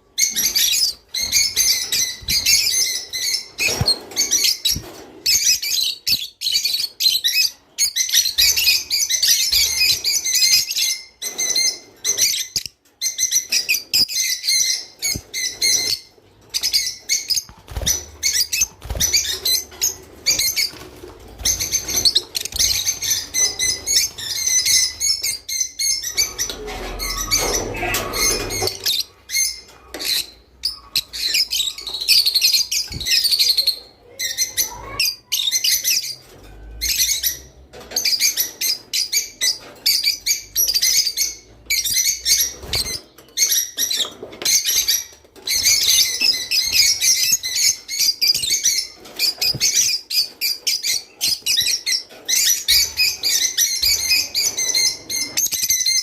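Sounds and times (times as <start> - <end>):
sparrows chirping and singing: 0.0 - 56.0.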